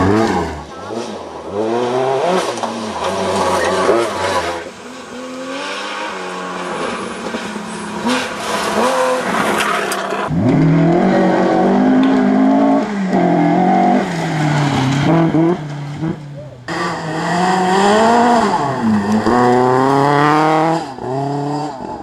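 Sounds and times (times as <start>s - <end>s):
loud engine revving high: 0.0s - 22.0s
rally car engine revving: 0.0s - 22.0s.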